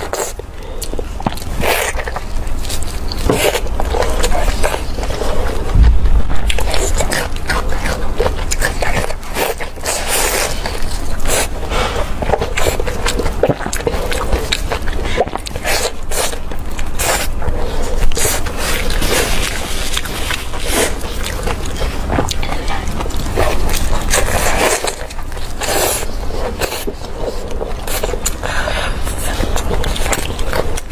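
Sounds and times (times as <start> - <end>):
person chewing and smacking food: 0.0 - 30.9.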